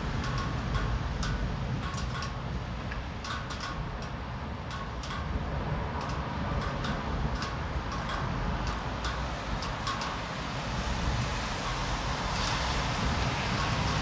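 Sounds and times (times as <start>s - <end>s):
raindrops tapping: 0.0s - 14.0s
steady low rain rumble: 0.0s - 14.0s.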